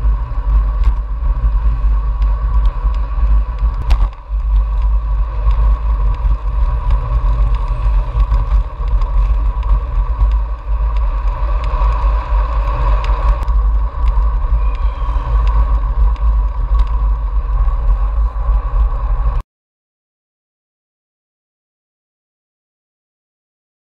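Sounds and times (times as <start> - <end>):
bike clicks and rattles: 0.0 - 19.4
bike tyre noise: 0.0 - 19.4
wind rumble on microphone: 0.0 - 19.4.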